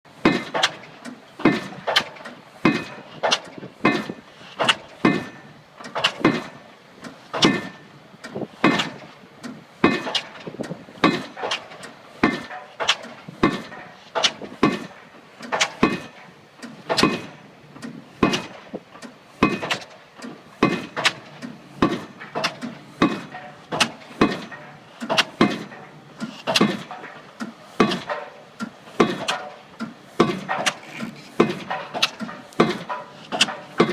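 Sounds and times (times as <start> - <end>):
pile driver hammer striking: 0.2 - 6.6, 7.3 - 7.9, 8.6 - 9.1, 9.8 - 10.4, 11.0 - 17.5, 18.2 - 18.8, 19.4 - 33.9.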